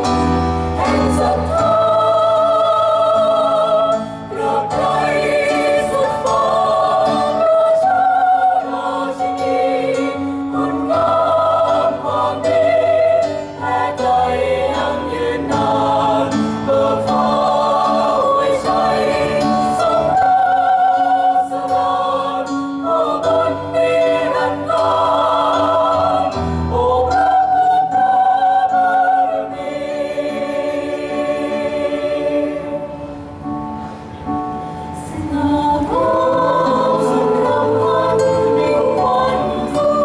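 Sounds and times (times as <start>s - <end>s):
mixed choir singing: 0.0s - 40.0s.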